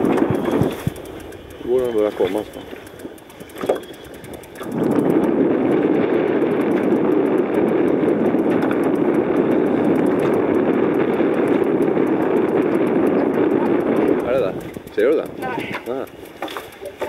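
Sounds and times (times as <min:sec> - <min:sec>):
motor running loudly: 0:00.0 - 0:17.0.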